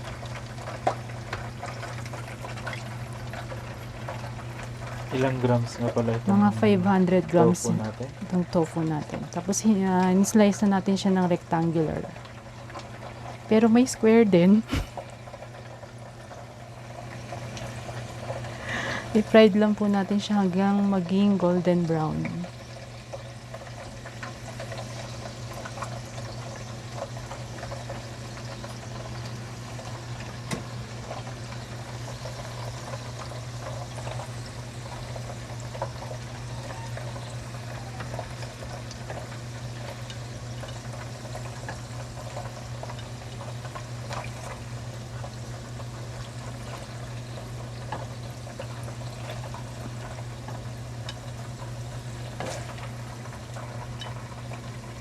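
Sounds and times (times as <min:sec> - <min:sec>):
tofu sizzling in hot oil: 0:00.0 - 0:06.8, 0:07.8 - 0:55.0.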